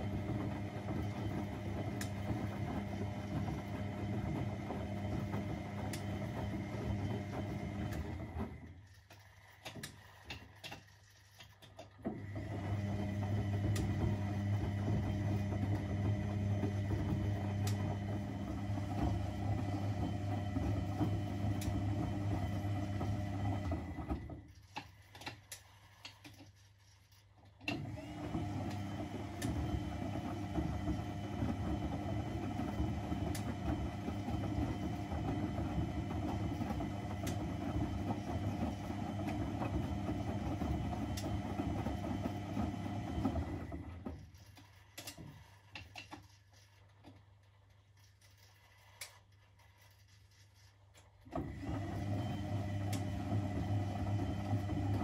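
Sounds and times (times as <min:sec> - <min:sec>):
washing machine motor hum: 0:00.0 - 0:50.0, 0:51.2 - 0:55.0.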